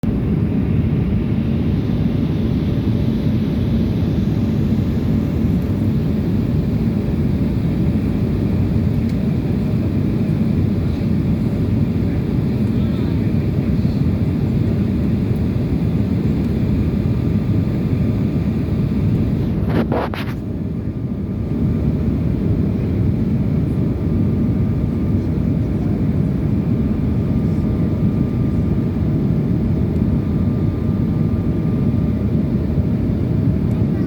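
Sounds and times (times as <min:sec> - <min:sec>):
airliner cabin engine drone: 0:00.0 - 0:34.0.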